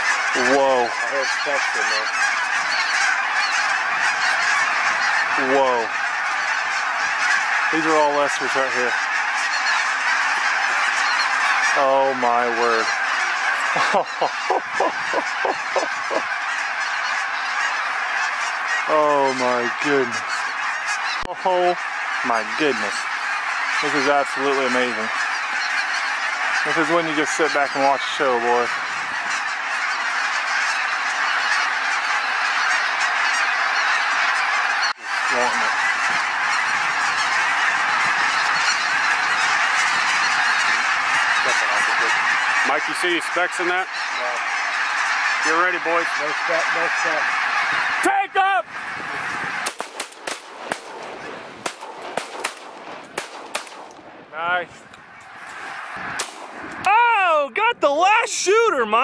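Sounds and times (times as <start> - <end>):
nearer goose calls falling in pitch: 0.0 - 53.7
flock of geese honking: 0.0 - 59.0.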